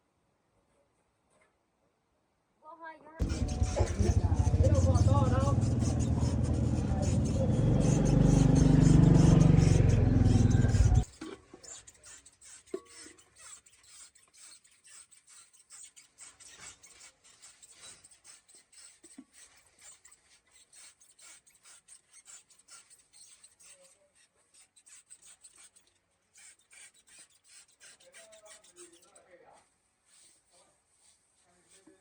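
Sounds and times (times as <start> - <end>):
hand rubbing and scraping: 3.2 - 32.0.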